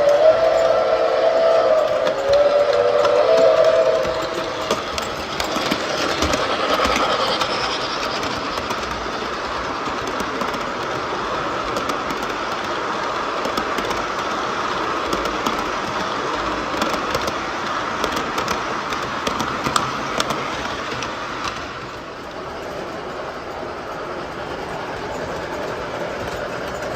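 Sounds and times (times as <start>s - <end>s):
model train motor and wheels rumbling: 0.0s - 26.9s
wheels clicking over rail joints: 0.0s - 26.9s.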